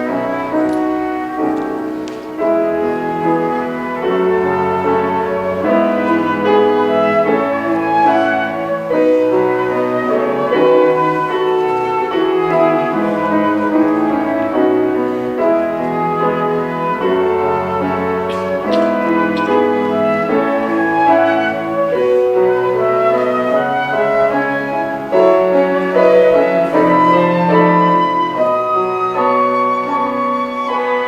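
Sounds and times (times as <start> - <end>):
cello: 0.0 - 31.0
flute: 0.0 - 31.0
piano chords: 0.0 - 31.0.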